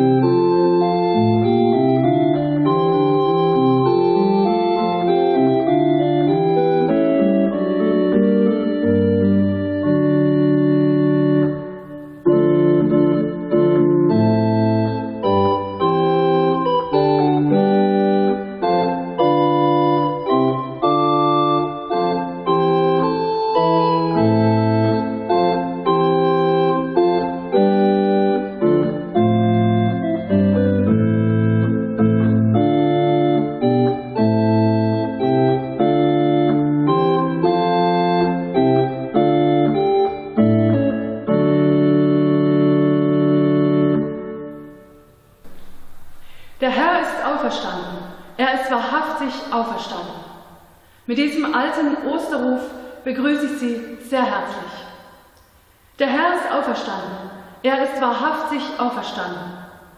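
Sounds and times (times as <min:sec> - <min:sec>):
church organ playing chords: 0:00.0 - 0:48.4.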